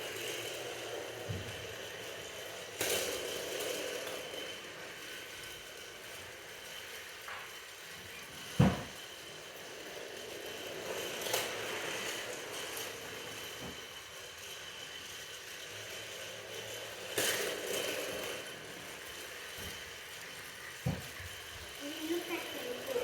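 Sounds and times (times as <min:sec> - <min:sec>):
machine running noise: 0:00.0 - 0:23.0.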